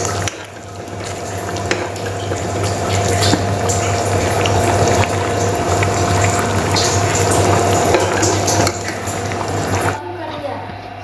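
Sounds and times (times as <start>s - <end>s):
curry bubbling and popping: 0.0s - 10.0s.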